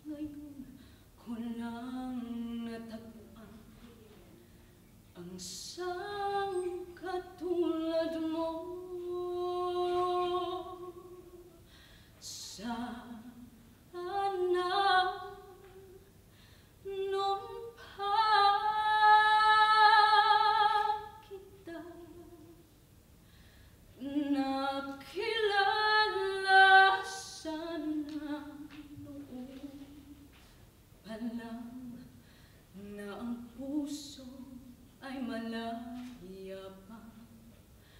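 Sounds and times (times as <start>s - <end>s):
woman singing unaccompanied: 0.0s - 4.4s, 5.1s - 11.6s, 12.2s - 16.1s, 16.8s - 22.7s, 24.0s - 30.4s, 31.0s - 37.6s.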